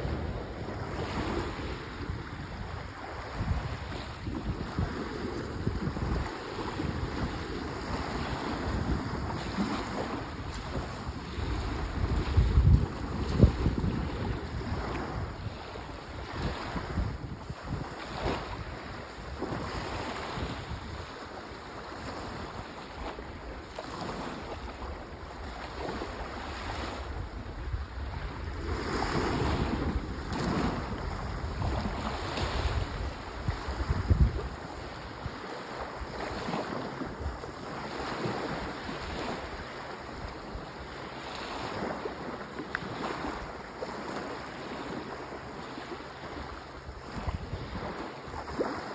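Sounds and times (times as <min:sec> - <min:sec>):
sea waves washing on shore: 0:00.0 - 0:48.9
wind buffeting microphone: 0:00.0 - 0:48.9.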